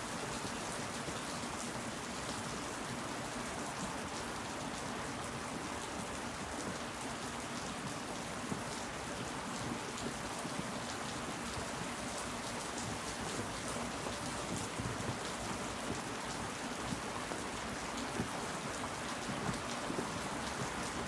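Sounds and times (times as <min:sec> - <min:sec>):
raindrops hitting close by: 0:00.0 - 0:21.0
steady rain falling: 0:00.0 - 0:21.0.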